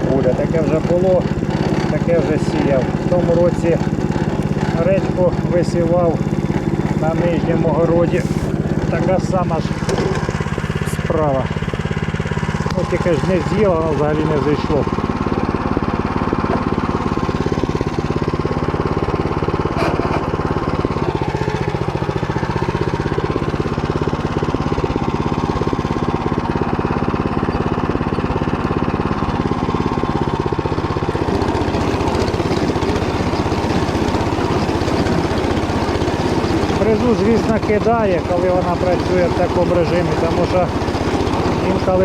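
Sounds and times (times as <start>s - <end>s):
rotary cutter milling stubble: 0.0s - 42.0s
small tractor engine under load: 0.0s - 42.0s.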